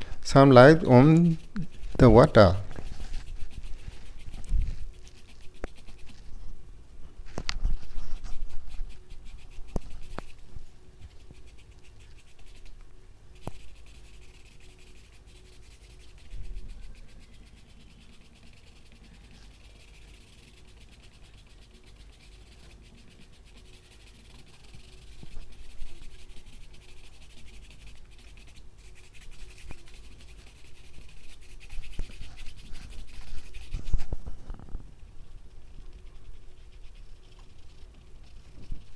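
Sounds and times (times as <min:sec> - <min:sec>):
paintbrush scratching on canvas: 0:00.0 - 0:38.9.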